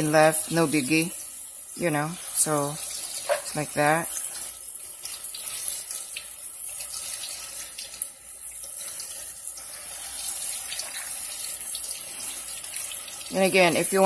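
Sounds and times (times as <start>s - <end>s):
tap water running into sink: 0.0s - 14.0s.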